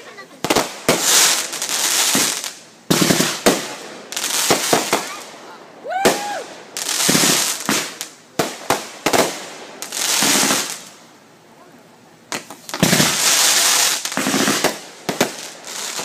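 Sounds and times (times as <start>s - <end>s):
fireworks bangs: 0.0s - 11.0s, 12.3s - 16.0s
fireworks hissing: 0.0s - 11.1s, 12.3s - 16.0s.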